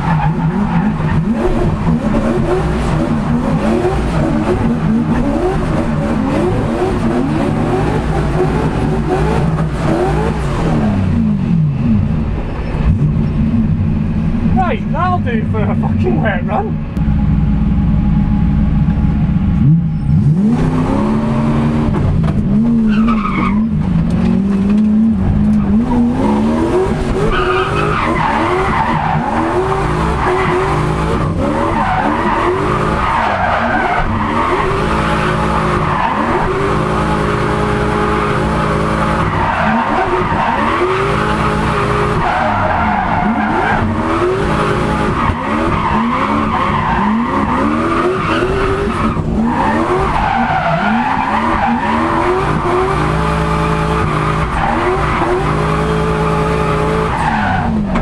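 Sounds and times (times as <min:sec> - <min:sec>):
car engine revving hard: 0:00.0 - 0:12.1, 0:19.6 - 0:58.0.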